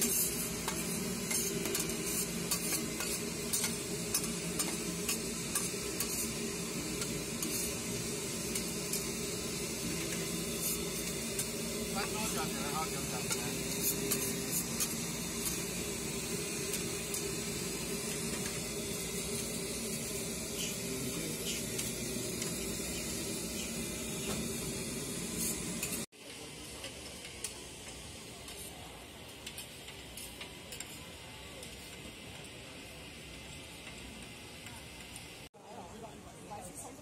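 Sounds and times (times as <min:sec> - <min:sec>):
oil sizzling on griddle: 0:00.0 - 0:35.5.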